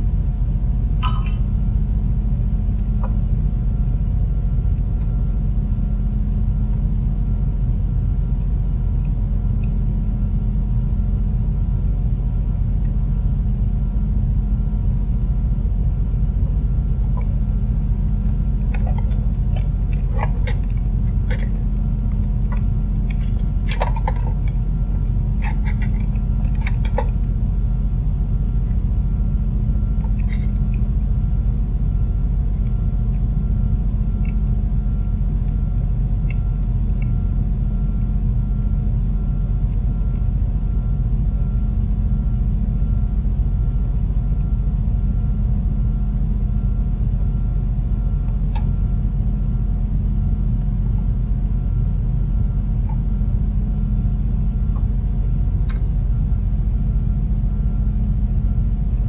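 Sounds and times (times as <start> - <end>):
low rumble with hum: 0.0 - 59.0.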